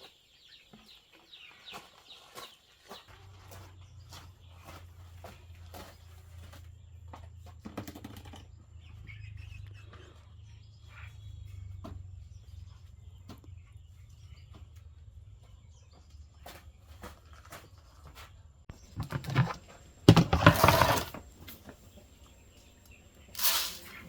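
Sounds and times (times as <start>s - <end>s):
chickens chirping and clucking: 0.0s - 20.6s, 21.2s - 24.0s.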